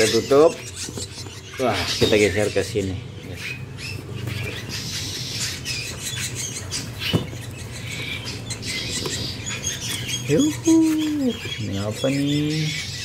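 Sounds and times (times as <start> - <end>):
nestlings chirping: 0.0 - 13.0.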